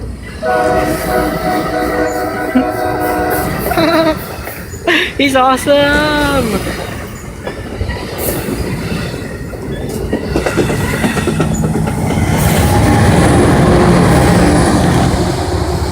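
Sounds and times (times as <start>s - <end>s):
train wheels clicking over rails: 0.0s - 5.2s, 6.0s - 15.9s.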